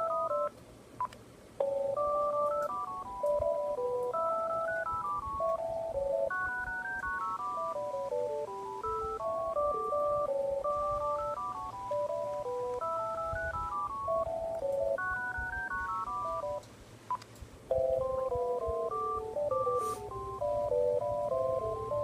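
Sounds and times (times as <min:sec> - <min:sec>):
phone ringtone beeps: 0:00.0 - 0:22.0.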